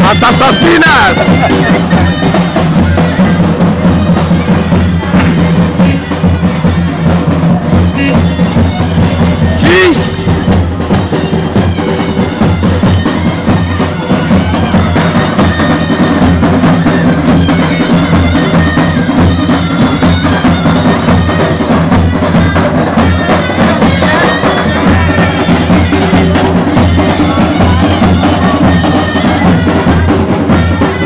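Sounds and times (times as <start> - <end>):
drum beats: 0.0 - 31.0
reed wind instrument melody: 0.0 - 31.0.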